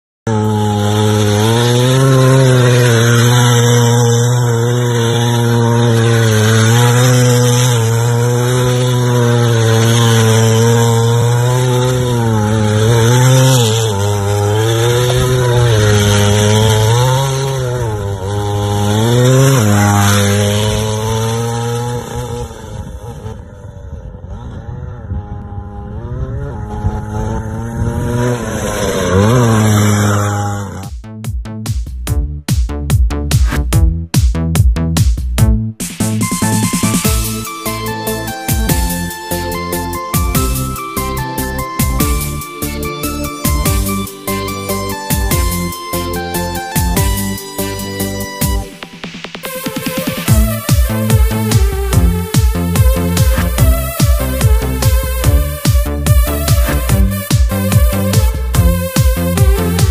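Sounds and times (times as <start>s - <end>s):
go-kart engine revving: 0.3s - 31.0s, 35.8s - 59.9s.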